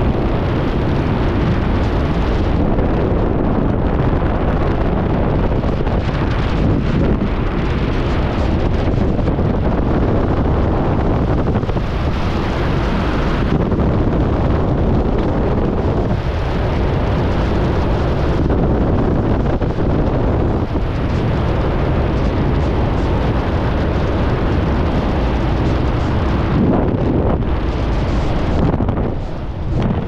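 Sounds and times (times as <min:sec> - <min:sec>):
freefall wind rush: 0:00.0 - 0:30.0.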